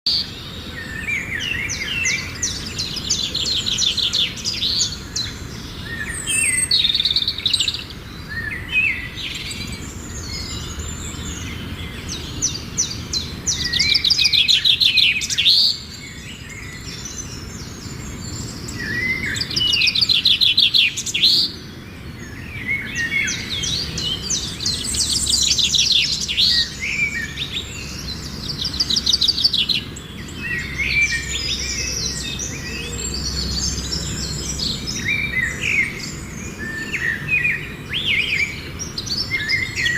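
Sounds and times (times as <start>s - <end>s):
flock of birds chirping: 0.1s - 39.9s.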